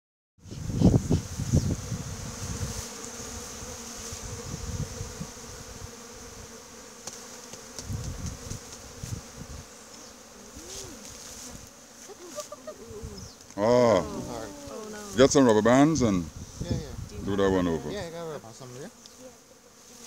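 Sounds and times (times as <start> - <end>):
honey bees buzzing: 0.4 - 20.0.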